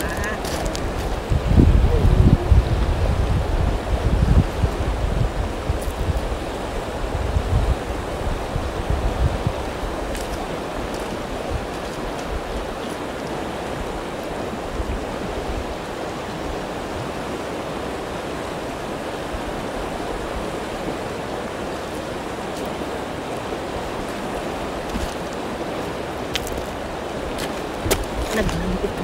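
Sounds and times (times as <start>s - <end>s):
river flowing over pebbles: 0.0s - 29.0s.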